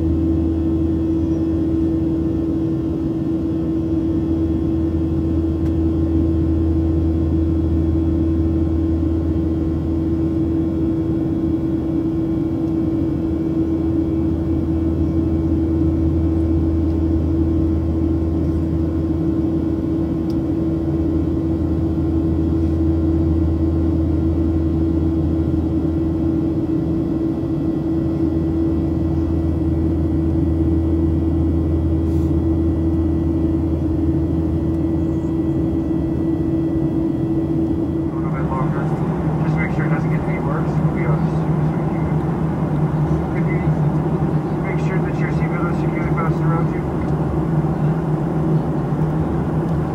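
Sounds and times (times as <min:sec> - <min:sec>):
airplane cabin drone: 0:00.0 - 0:49.9.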